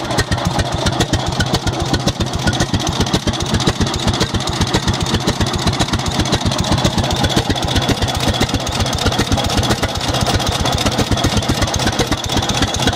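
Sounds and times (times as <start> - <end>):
tractor engine idling: 0.0 - 12.9.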